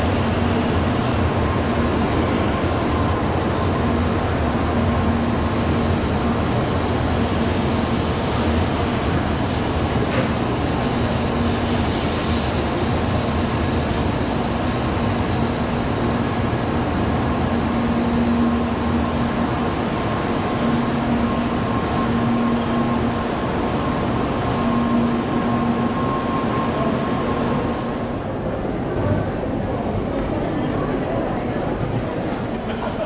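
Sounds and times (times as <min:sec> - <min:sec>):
train rolling past: 0:00.0 - 0:33.0.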